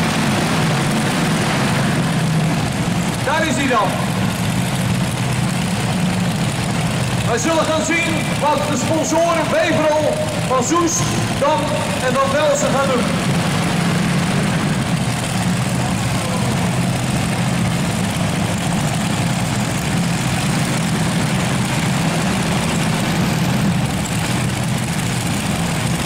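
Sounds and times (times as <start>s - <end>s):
tractor engines idling: 0.0s - 26.0s.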